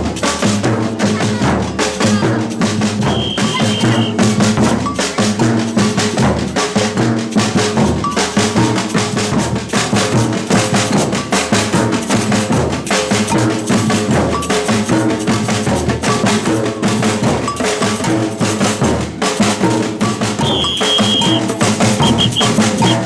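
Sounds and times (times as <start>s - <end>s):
cowbell-like bell: 0.0s - 23.0s
samba percussion ensemble: 0.0s - 23.0s.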